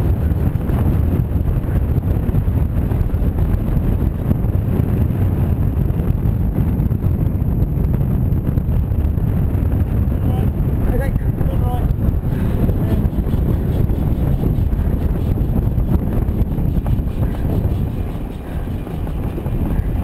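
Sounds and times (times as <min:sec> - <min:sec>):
wheels rolling over tarmac: 0:00.0 - 0:20.0
wind rumble on microphone: 0:00.0 - 0:20.0.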